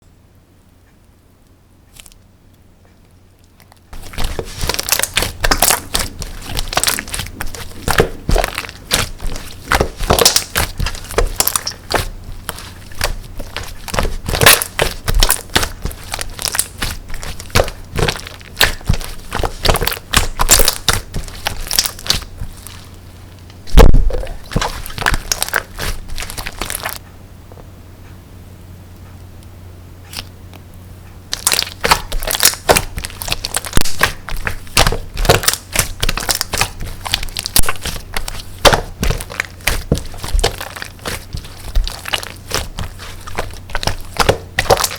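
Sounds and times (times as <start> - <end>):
slime squished by hand: 3.4 - 27.0, 31.3 - 44.9.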